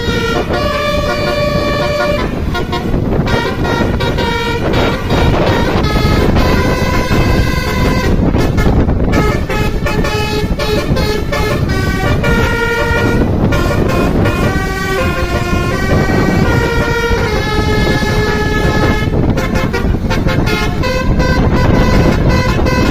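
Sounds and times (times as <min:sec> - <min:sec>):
air horn playing a melody: 0:00.0 - 0:22.9.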